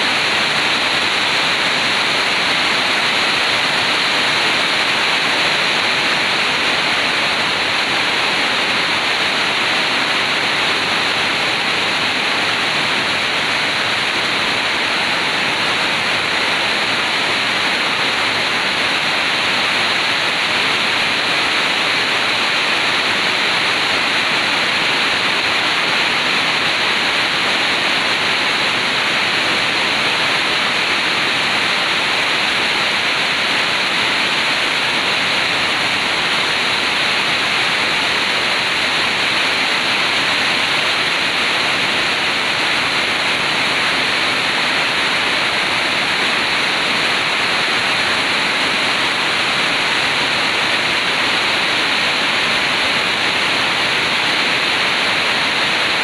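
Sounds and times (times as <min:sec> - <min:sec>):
rain on sheet-metal roof: 0:00.0 - 0:56.0.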